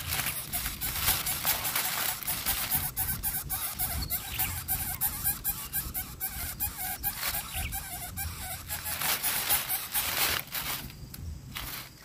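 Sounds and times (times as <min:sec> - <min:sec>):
chicks squeaky begging calls: 0:00.0 - 0:10.4
dry grass rustling: 0:00.0 - 0:12.0.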